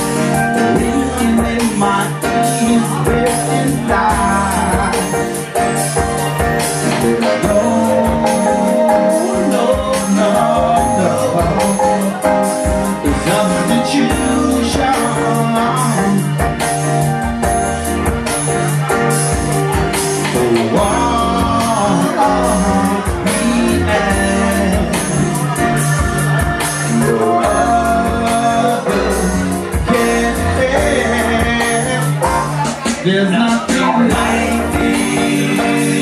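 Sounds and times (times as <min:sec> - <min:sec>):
person singing: 0:00.0 - 0:17.2, 0:18.7 - 0:36.0
bass line: 0:00.0 - 0:36.0
live band playing: 0:00.0 - 0:36.0
steady drum beat: 0:00.0 - 0:36.0.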